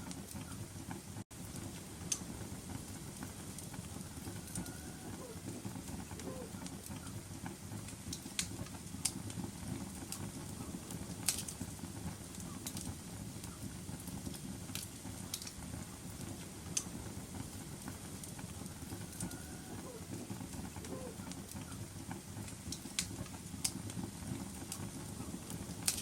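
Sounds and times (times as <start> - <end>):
fire burning rumble: 0.0 - 26.0.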